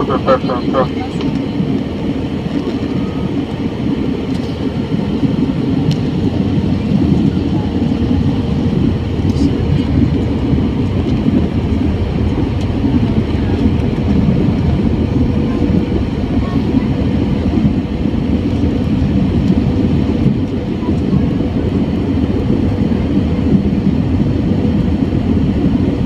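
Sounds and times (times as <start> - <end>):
aircraft cabin engine noise: 0.0 - 26.0.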